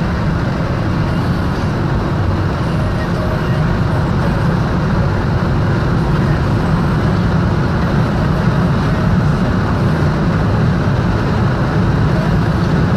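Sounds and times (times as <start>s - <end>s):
engine and tyre rumble in cabin: 0.0s - 12.9s.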